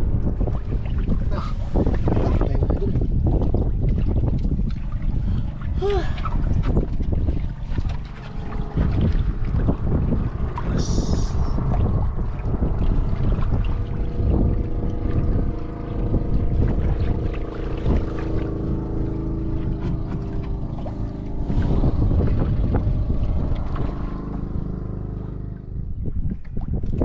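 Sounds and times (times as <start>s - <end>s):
boat engine running: 0.0s - 27.0s
water noise: 0.0s - 27.0s
wind: 0.0s - 27.0s.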